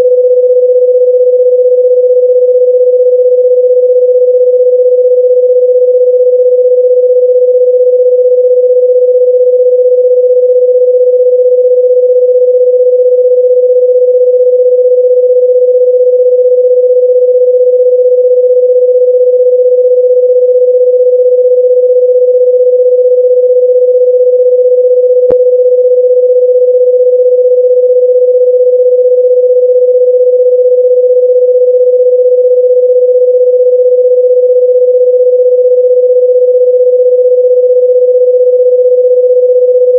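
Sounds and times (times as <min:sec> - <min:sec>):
electronic pure tone: 0:00.0 - 0:39.9.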